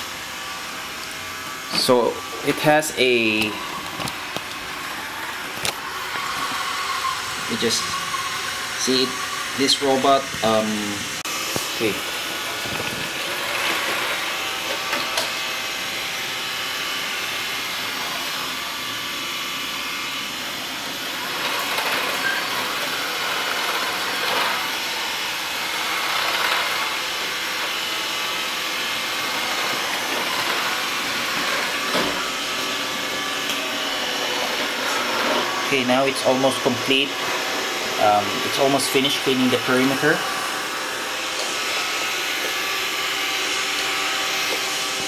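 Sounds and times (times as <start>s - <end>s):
robot vacuum running: 0.0s - 45.0s.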